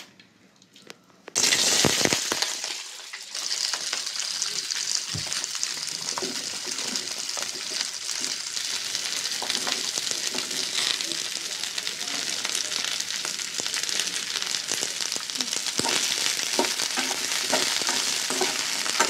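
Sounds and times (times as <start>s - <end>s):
vegetables sizzling in hot oil: 1.4s - 19.0s.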